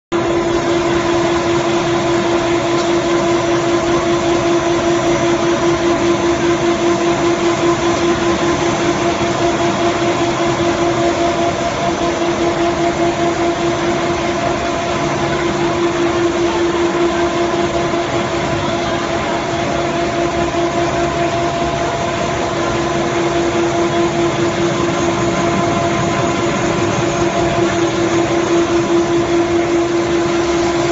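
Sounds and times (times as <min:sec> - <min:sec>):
extruder machine hum: 0:00.1 - 0:30.9.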